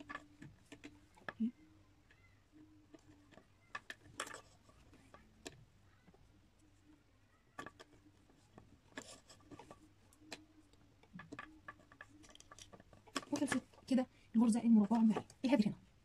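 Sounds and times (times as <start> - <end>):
cord rubbing: 0.0 - 14.0.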